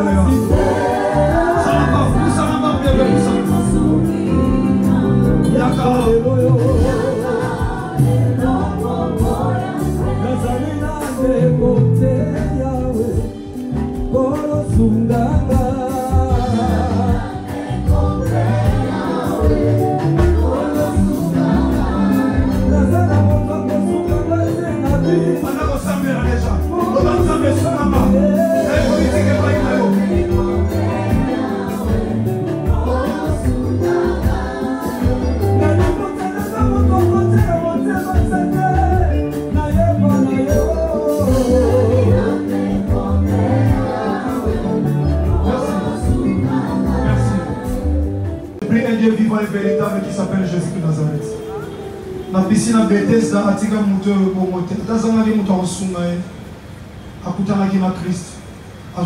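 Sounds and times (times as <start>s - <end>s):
choir singing gospel: 0.0s - 57.2s.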